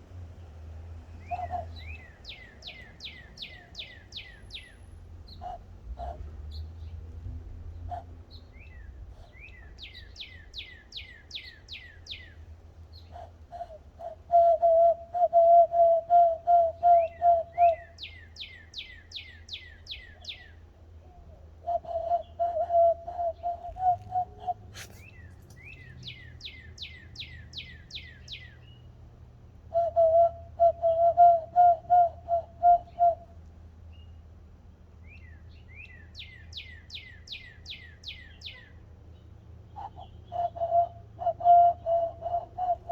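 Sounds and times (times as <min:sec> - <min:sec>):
bird song notes: 0:00.0 - 0:29.0, 0:32.6 - 0:34.3, 0:35.0 - 0:42.9.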